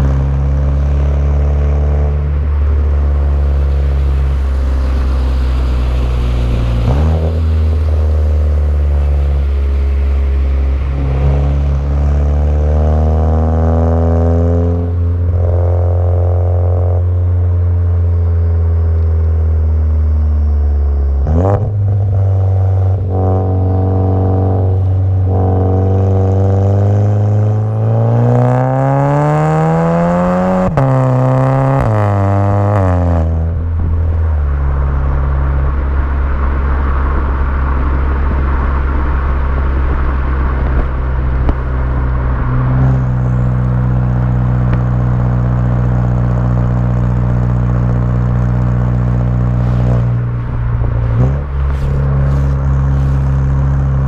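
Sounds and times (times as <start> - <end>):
loud car engine running: 0.0 - 54.0.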